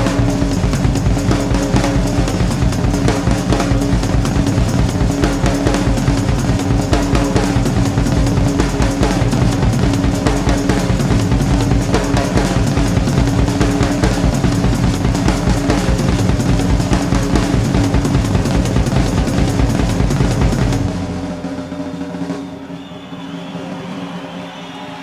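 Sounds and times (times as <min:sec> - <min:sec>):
music with fast drum beat: 0:00.0 - 0:25.0.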